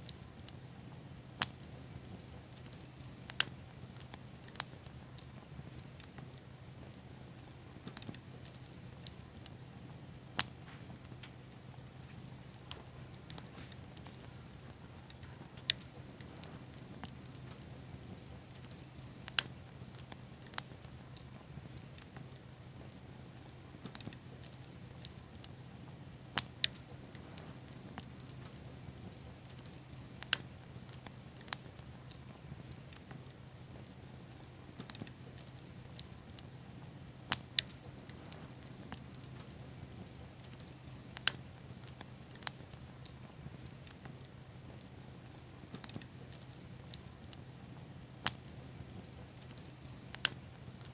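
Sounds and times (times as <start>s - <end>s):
bonfire burning: 0.0s - 50.9s
fire crackling and popping: 0.0s - 50.9s.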